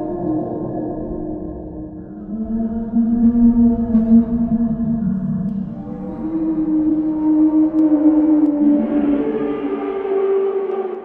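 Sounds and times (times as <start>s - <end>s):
droning monster moan: 0.0s - 11.0s.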